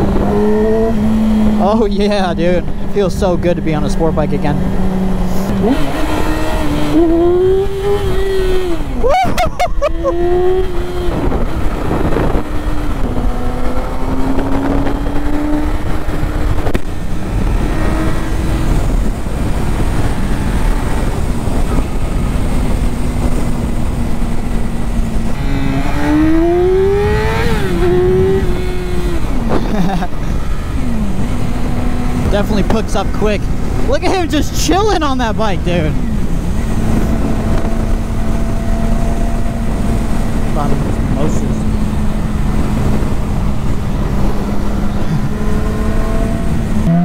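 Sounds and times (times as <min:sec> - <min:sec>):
wind rush over microphone: 0:00.0 - 0:01.6, 0:03.7 - 0:47.0
motorcycle engine accelerating: 0:00.0 - 0:47.0.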